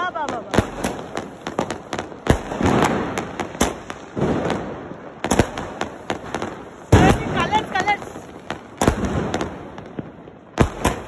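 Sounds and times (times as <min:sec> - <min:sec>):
fireworks bangs and crackles: 0:00.0 - 0:11.0
fireworks hissing rush: 0:00.0 - 0:11.0.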